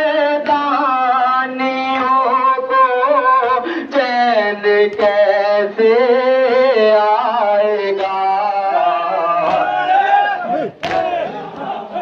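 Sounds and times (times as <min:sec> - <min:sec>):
person chanting a lament: 0:00.0 - 0:12.0.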